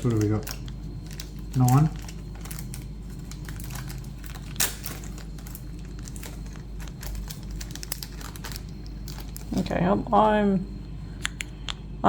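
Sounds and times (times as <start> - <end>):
packaging crinkling and clicking: 0.0 - 9.8
steady low hum: 0.0 - 12.0.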